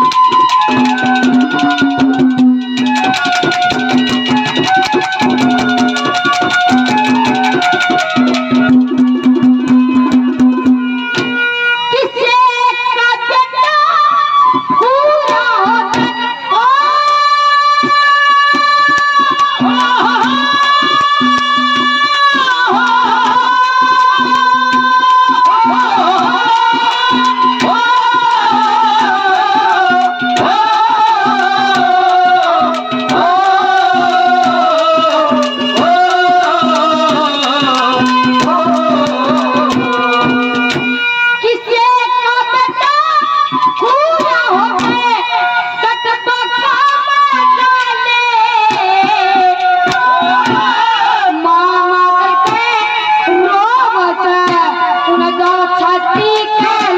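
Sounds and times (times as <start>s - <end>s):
hand drum: 0.0s - 12.4s, 14.5s - 56.9s
harmonium playing a folk melody: 0.0s - 56.9s.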